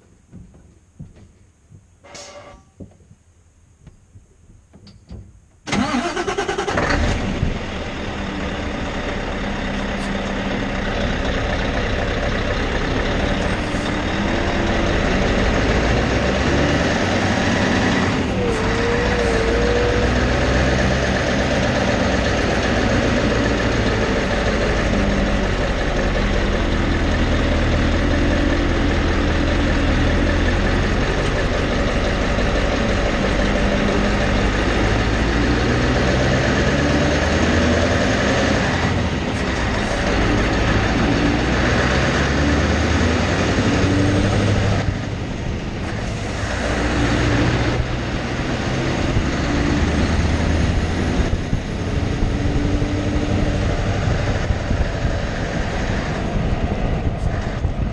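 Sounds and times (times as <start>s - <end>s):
truck diesel engine: 5.6s - 57.9s.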